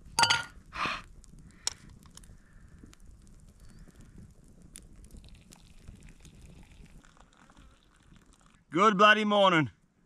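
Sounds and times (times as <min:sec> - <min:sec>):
fire hissing softly: 0:00.0 - 0:08.8
campfire crackling: 0:00.0 - 0:09.2.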